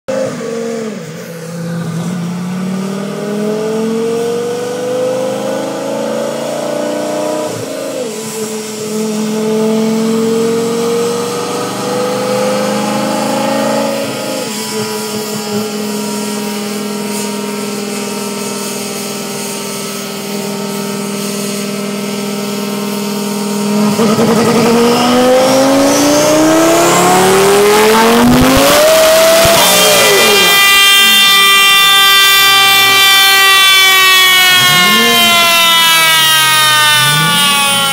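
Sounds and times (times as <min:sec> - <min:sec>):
sports car engine revving: 0:00.1 - 0:37.9.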